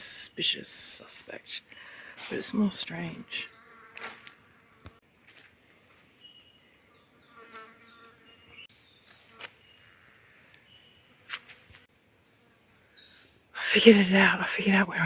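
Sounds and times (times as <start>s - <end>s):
faint insects buzzing: 0.0s - 15.0s.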